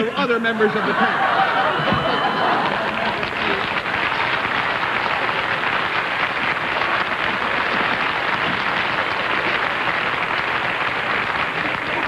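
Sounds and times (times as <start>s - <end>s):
audience applauding: 0.7s - 12.0s.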